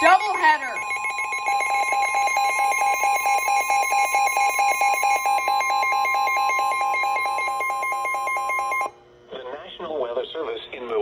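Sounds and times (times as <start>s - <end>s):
rapid pulsing alarm beeps: 0.0s - 8.9s
steady warning alarm tone: 0.0s - 9.0s.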